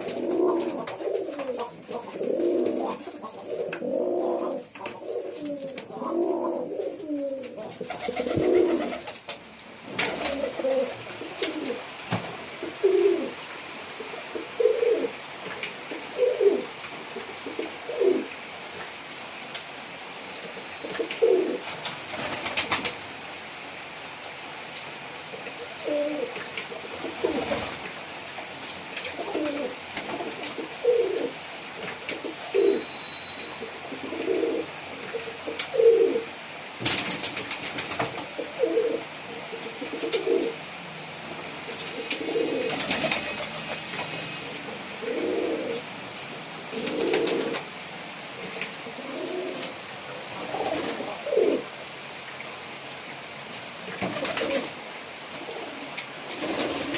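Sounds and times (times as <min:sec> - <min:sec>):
pigeons cooing: 0:00.0 - 0:18.9, 0:20.4 - 0:23.0, 0:25.3 - 0:28.2, 0:28.9 - 0:51.8, 0:53.8 - 0:56.9.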